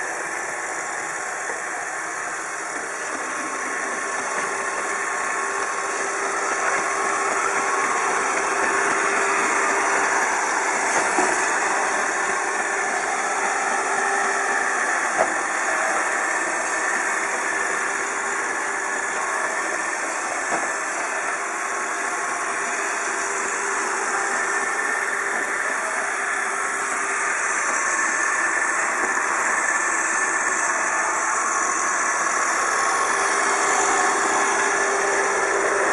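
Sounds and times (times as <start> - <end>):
robotic vacuum whirring: 0.0 - 35.9.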